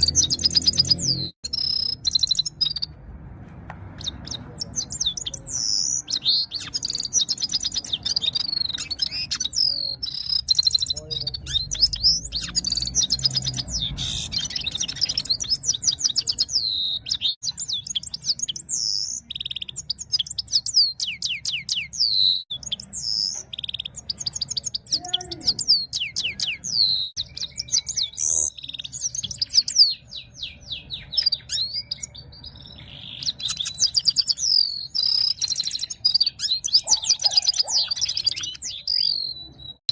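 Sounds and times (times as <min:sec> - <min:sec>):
bird twittering and trilling: 0:00.0 - 0:03.0, 0:04.0 - 0:39.9.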